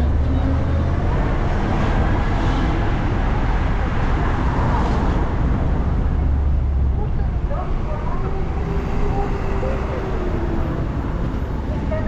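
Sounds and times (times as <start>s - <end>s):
bus engine: 0.0s - 12.0s
road noise: 0.0s - 12.0s.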